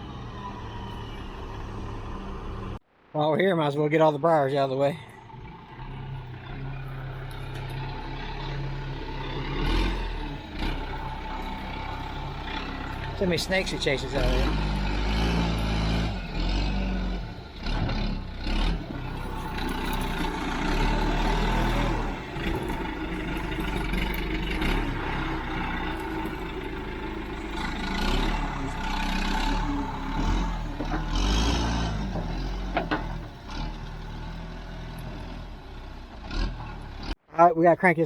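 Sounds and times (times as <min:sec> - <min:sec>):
backhoe engine running: 0:00.0 - 0:02.8, 0:05.1 - 0:37.2.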